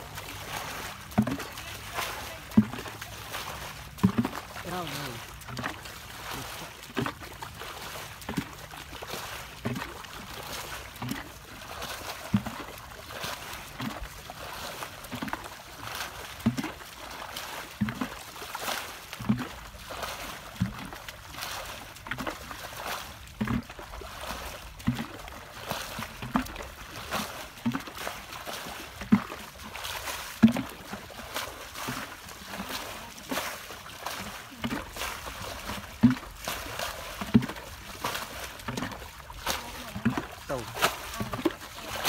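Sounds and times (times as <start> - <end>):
buckets scooping and splashing water: 0.0 - 42.0.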